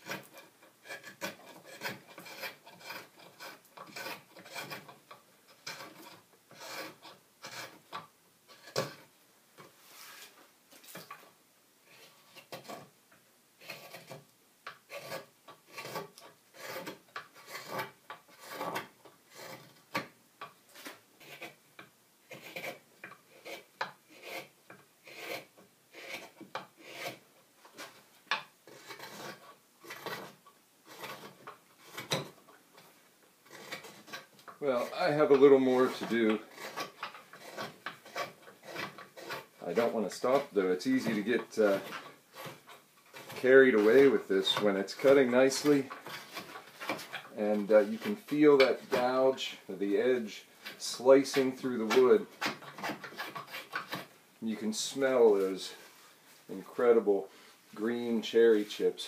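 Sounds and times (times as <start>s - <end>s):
knife slicing and scraping wood: 0.0s - 11.3s, 11.9s - 12.9s, 13.6s - 20.1s, 20.7s - 58.8s.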